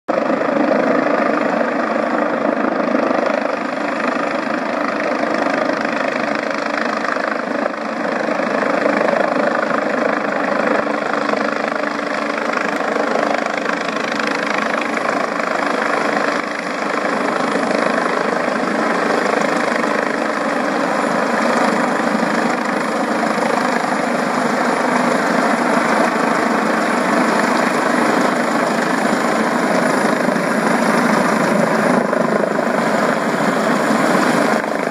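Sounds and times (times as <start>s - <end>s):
helicopter rotors and engines: 0.1s - 34.9s.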